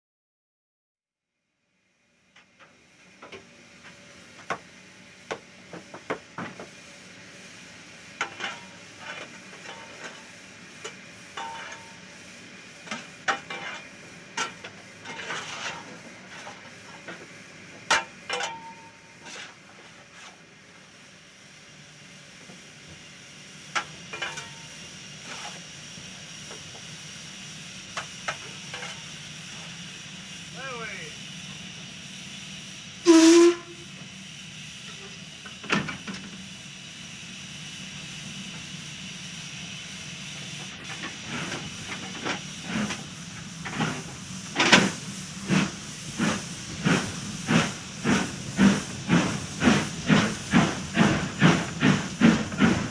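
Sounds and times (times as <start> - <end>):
steam locomotive hissing: 2.2 - 52.9.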